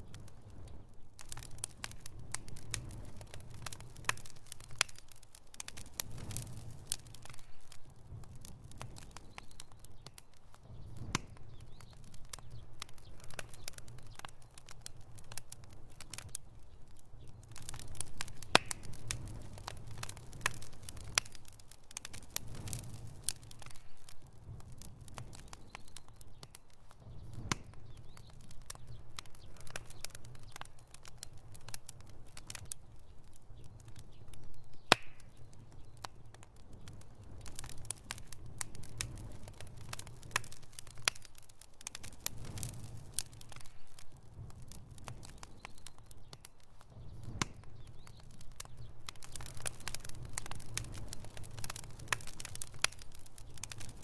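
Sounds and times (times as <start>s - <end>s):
bonfire crackling and popping: 0.0s - 54.0s
low rumble of burning: 0.0s - 54.0s.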